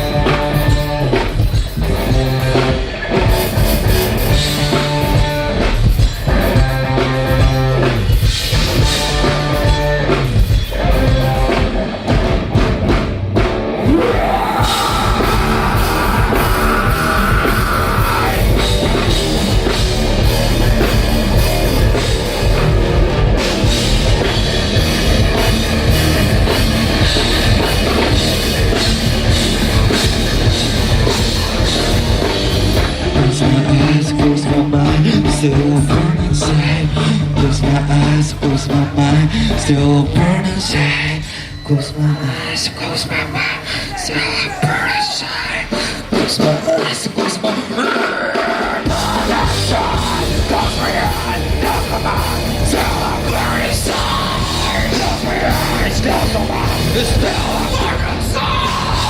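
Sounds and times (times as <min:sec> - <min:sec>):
drum kit: 0:00.0 - 0:41.6, 0:43.9 - 0:59.0
distorted guitars: 0:00.0 - 0:59.0.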